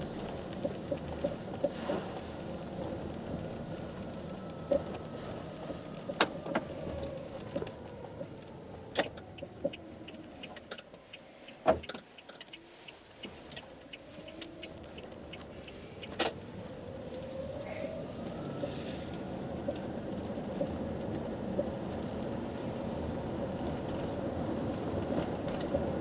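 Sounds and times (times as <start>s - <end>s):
road noise: 0.0s - 26.0s
vehicle drone: 0.0s - 26.0s.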